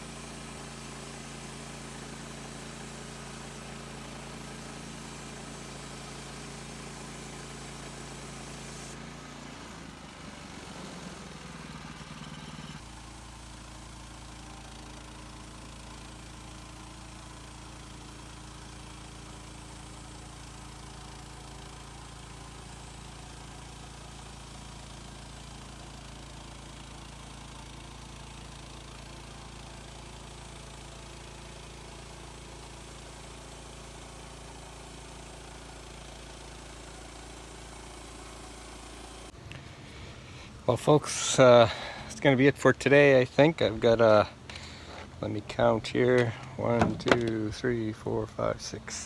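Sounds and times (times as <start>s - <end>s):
sawmill engine running: 0.0s - 49.0s.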